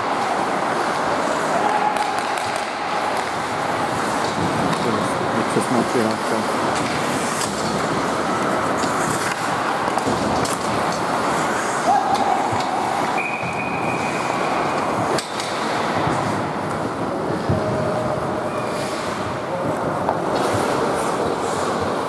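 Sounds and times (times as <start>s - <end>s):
skate blades scraping ice: 0.0s - 22.0s.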